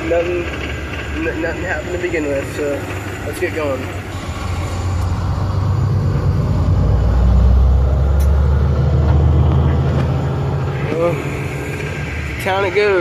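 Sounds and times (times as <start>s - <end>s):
diesel truck accelerating: 0.0s - 13.0s.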